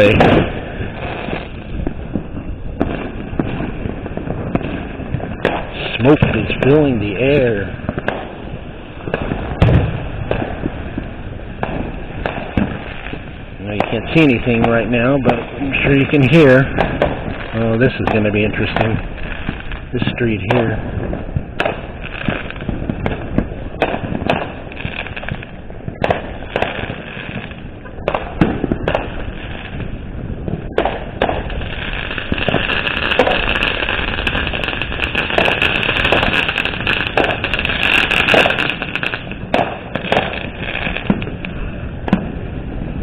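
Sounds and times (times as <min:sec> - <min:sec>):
fireworks and firecrackers popping: 0:00.0 - 0:43.0.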